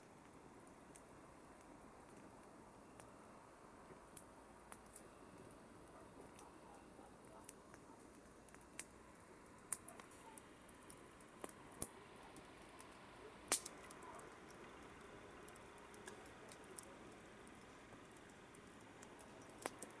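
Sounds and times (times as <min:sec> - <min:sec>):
campfire crackling and popping: 0:00.0 - 0:20.0
faint steady hiss: 0:00.0 - 0:20.0.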